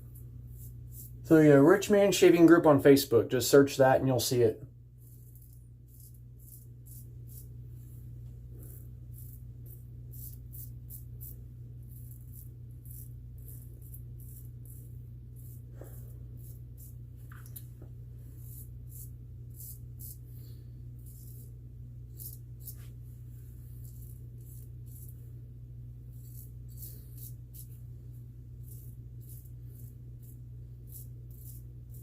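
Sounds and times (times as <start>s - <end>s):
razor scraping stubble: 0.1s - 3.0s, 3.8s - 25.3s, 26.0s - 27.9s, 28.6s - 32.0s.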